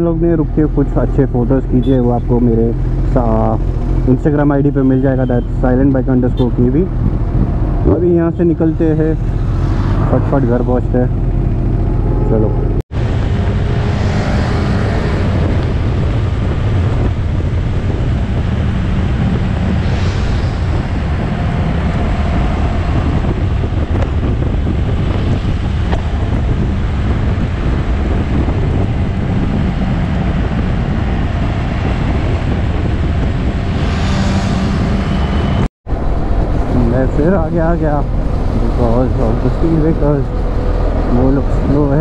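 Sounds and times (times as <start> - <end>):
motorcycle engine humming: 0.0 - 20.0, 20.6 - 42.0
wind rushing over microphone: 0.0 - 42.0.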